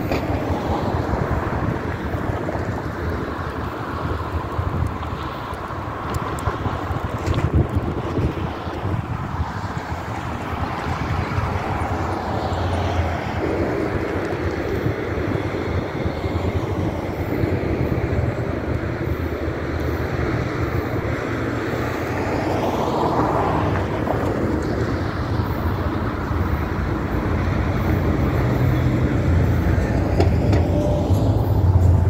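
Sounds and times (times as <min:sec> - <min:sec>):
background traffic noise: 0:00.0 - 0:32.0
car passing: 0:00.0 - 0:32.0
pickup truck rumbling past: 0:05.8 - 0:32.0.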